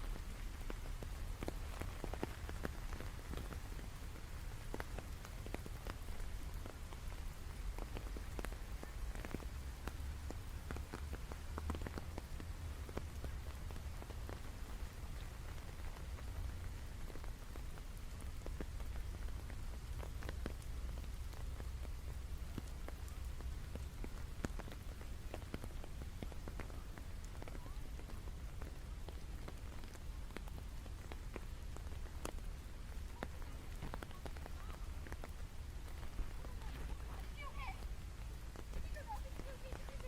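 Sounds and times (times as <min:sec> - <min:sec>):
raindrops ticking close by: 0:00.0 - 0:40.0
steady rain falling: 0:00.0 - 0:40.0.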